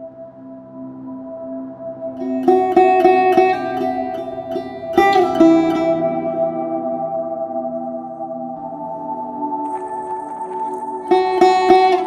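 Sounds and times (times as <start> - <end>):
sustained ringing notes: 0.8 - 12.0.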